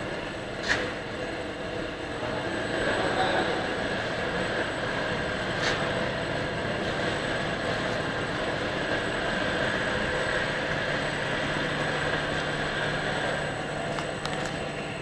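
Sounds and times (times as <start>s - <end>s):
machine mechanical hum with whine: 0.0s - 15.0s.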